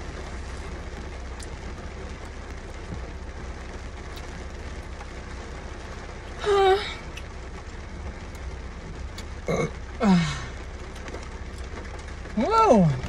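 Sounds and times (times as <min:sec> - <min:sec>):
low rumble: 0:00.0 - 0:13.0
rain on car roof: 0:00.0 - 0:13.0.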